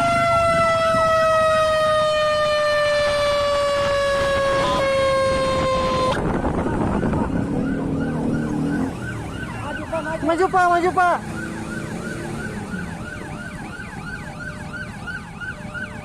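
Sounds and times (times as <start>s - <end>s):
siren long steady tone: 0.0s - 16.0s
sirens warbling: 0.0s - 16.0s.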